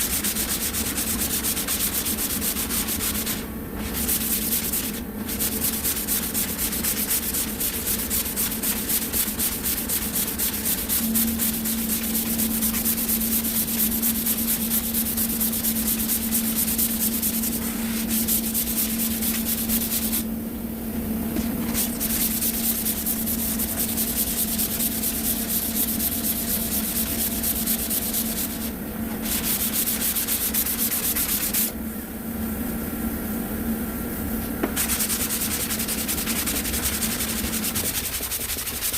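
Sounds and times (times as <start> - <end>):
sandpaper scraping: 0.0 - 20.2, 21.6 - 31.7, 34.8 - 38.9
steady low hum: 0.0 - 38.9.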